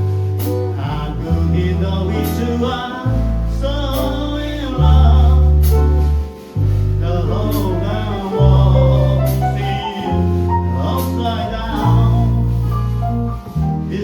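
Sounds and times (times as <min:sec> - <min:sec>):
person singing jazz: 0:00.0 - 0:14.0
piano accompaniment: 0:00.0 - 0:14.0.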